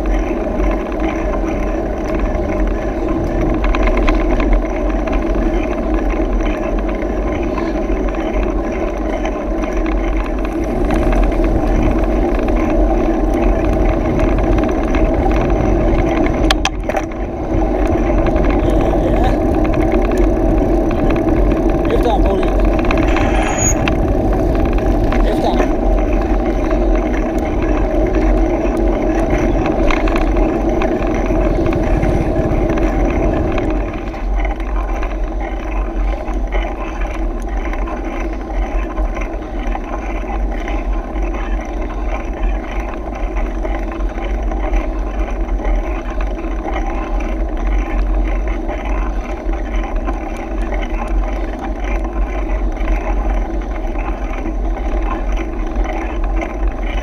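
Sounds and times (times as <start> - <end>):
bike tyres humming on road: 0.0 - 57.0
wind rumbling on microphone: 0.0 - 57.0.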